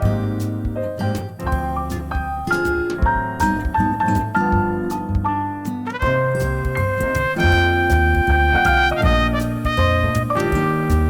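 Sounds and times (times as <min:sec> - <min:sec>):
jazz music: 0:00.0 - 0:11.0.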